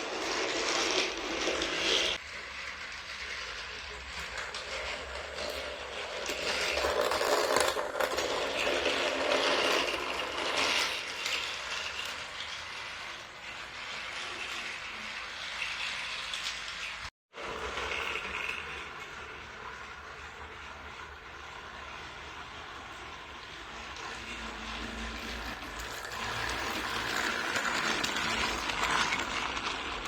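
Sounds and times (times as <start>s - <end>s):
toy train motor whirring: 0.0s - 30.0s.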